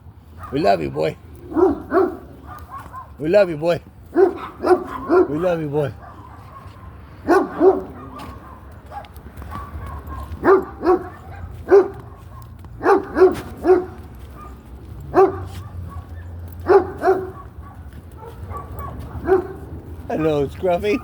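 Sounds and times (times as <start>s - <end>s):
dog barking: 0.3s - 3.2s, 4.1s - 21.0s.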